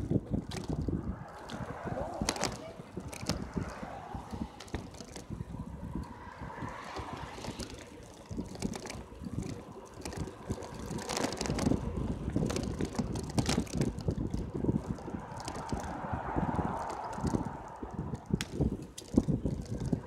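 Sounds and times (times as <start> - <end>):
bicycle rattling clicks and knocks: 0.0 - 20.0
tyres rumbling on road: 0.0 - 20.0
wind buffeting microphone: 0.0 - 20.0.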